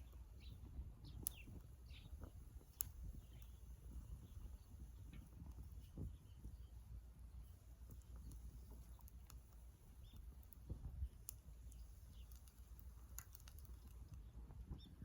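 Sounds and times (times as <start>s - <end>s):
wood stove crackling: 0.0s - 15.0s.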